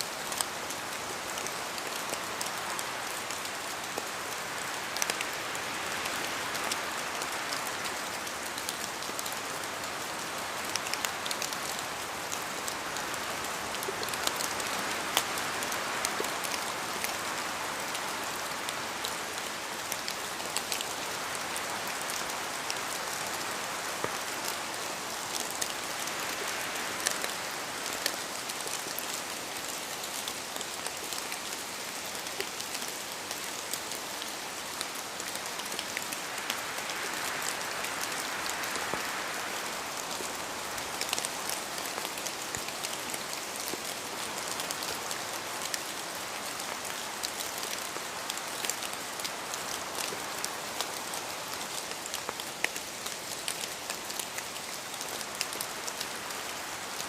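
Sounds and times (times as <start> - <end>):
raindrops ticking on surfaces: 0.0 - 57.0
steady rain hiss: 0.0 - 57.0.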